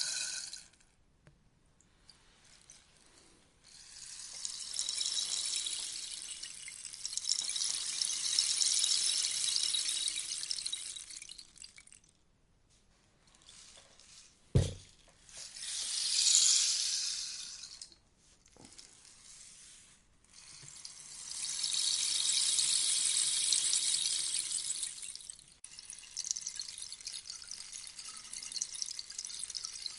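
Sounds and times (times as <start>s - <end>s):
rainstick pouring patter: 0.0s - 0.8s, 2.1s - 12.2s, 13.2s - 29.9s.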